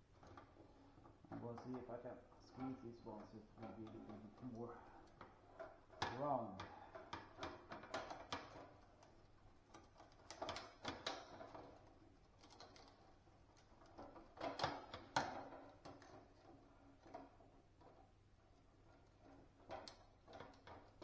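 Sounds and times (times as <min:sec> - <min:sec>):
metal parts clicking and knocking: 0:02.4 - 0:21.0.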